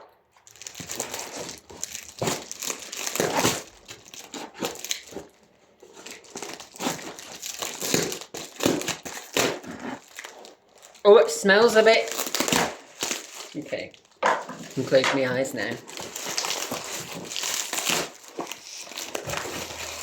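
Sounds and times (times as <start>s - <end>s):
packaging crinkling and tearing: 0.3s - 20.0s.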